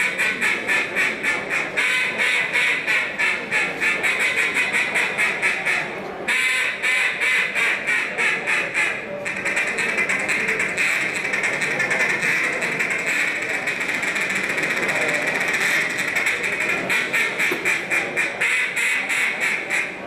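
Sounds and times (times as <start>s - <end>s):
duck call quacking notes: 0.0s - 20.0s.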